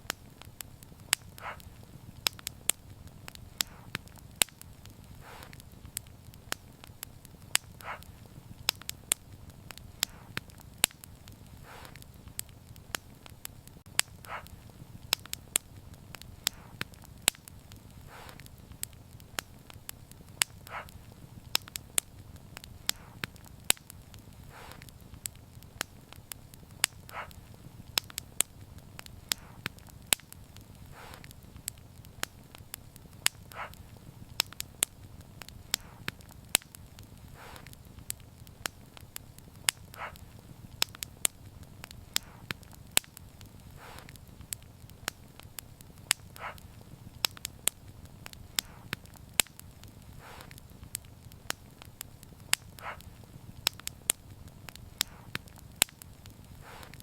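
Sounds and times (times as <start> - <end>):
hissing pops: 0.0 - 57.0
low rumble of flames: 0.0 - 57.0
wood fire crackling: 0.0 - 57.0.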